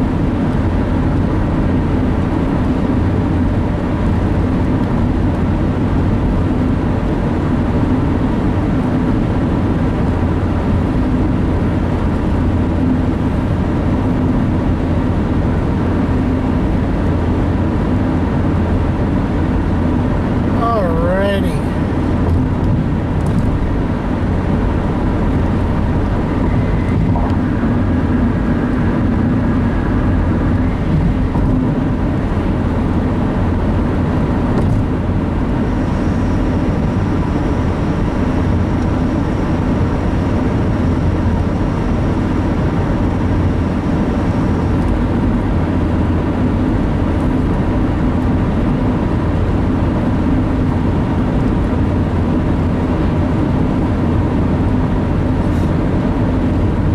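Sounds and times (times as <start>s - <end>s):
car road and engine rumble: 0.0s - 56.9s.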